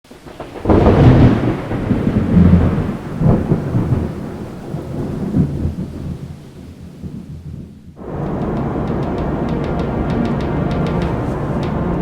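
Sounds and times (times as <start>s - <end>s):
thunder rolling: 0.1s - 12.0s.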